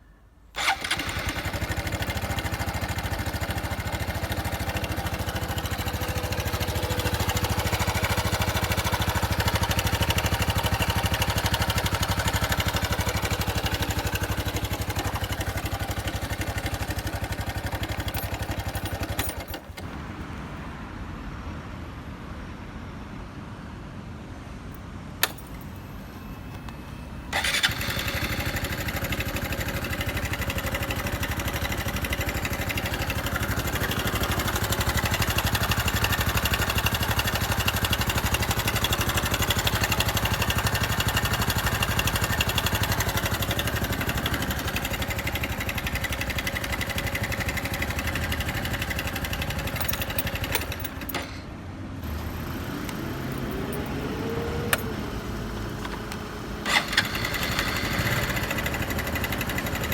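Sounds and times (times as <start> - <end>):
motorcycle engine running: 0.6 - 19.5, 27.4 - 51.2, 52.0 - 59.9.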